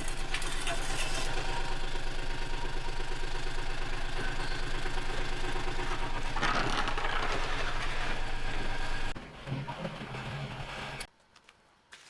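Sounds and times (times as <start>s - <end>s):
engine running with fast pulse: 0.0s - 11.1s
loud rough noise: 0.7s - 11.1s.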